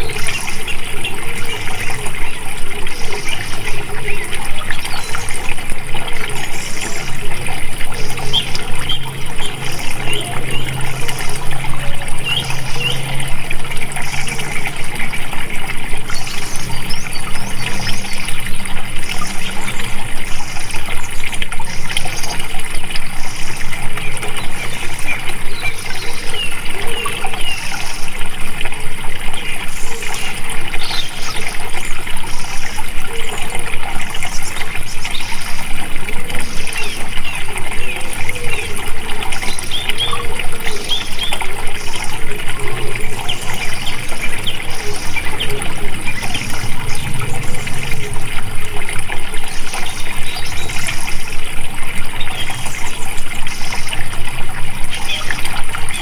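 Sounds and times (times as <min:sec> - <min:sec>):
small birds chirping: 0:00.0 - 0:28.2, 0:36.3 - 0:56.0
water flowing and gushing: 0:00.0 - 0:56.0.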